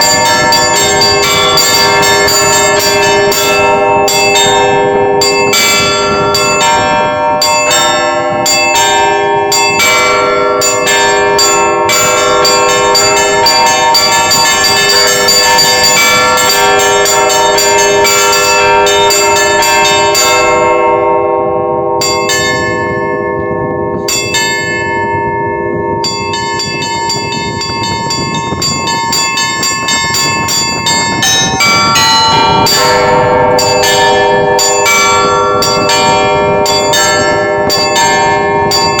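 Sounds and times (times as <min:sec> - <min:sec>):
small bells ringing rapidly: 0:00.0 - 0:21.1, 0:22.0 - 0:39.0
large bells striking: 0:00.0 - 0:39.0.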